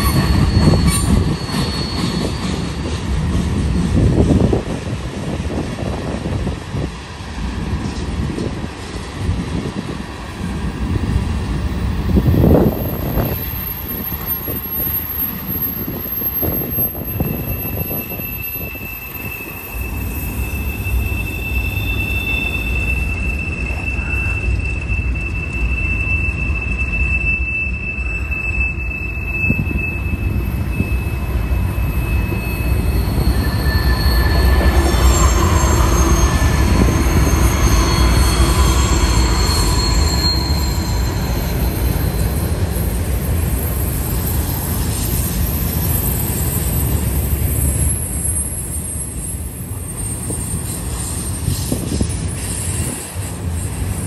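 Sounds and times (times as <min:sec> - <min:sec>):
wheels squealing against rails: 0:00.0 - 0:06.9, 0:07.8 - 0:54.0
low rumble of freight cars: 0:00.0 - 0:54.0.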